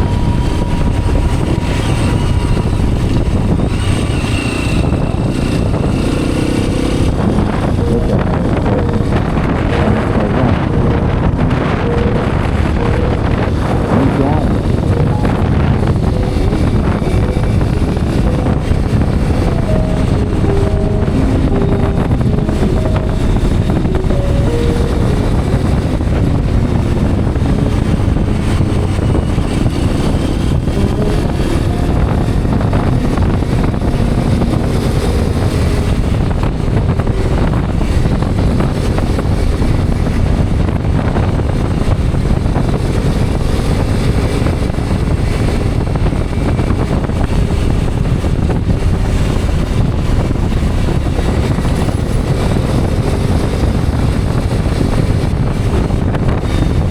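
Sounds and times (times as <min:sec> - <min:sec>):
motorcycle engine running: 0:00.0 - 0:56.9
wind noise on microphone: 0:00.0 - 0:56.9.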